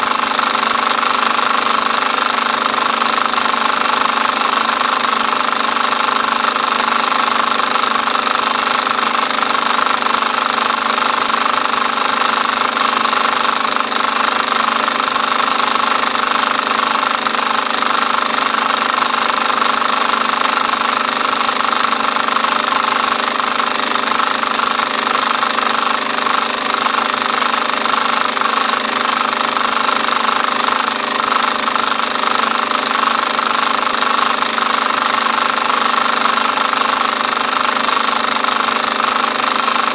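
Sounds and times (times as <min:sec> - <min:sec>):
film projector clatter and whir: 0:00.0 - 0:39.9.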